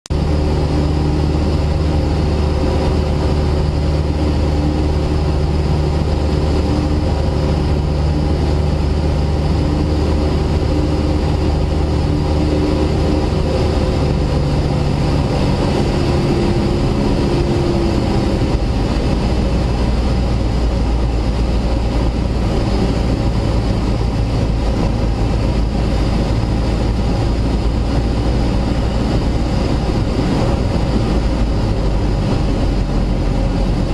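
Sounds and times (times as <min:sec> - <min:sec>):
propeller plane engine droning: 0:00.1 - 0:33.9.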